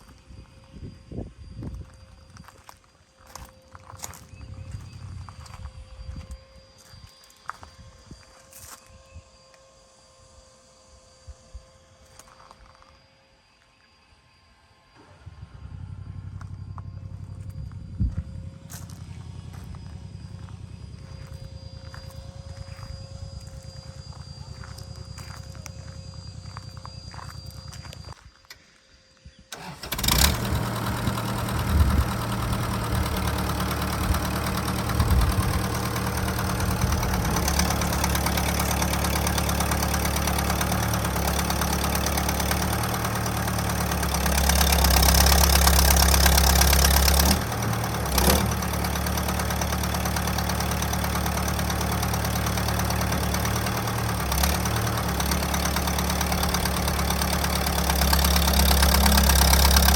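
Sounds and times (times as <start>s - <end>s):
tractor diesel engine running: 1.7s - 6.3s, 15.0s - 28.2s, 29.5s - 59.9s.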